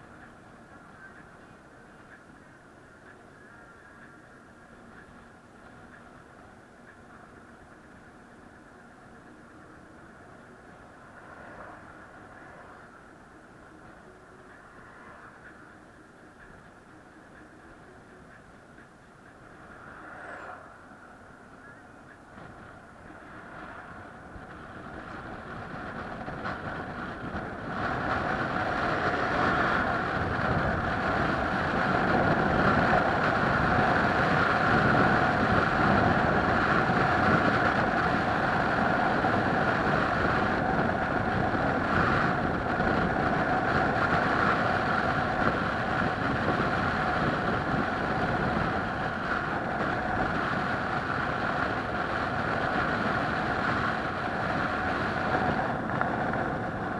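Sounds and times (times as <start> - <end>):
vehicle running with a whine: 0.0 - 56.9.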